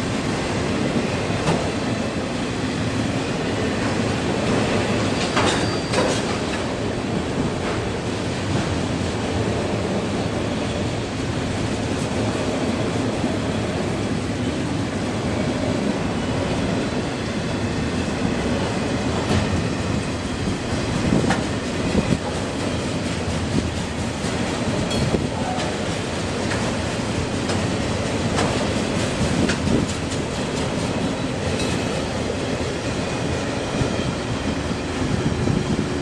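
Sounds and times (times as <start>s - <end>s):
freight train wheels rumbling: 0.0s - 36.0s
clickety-clack over rail joints: 0.2s - 36.0s.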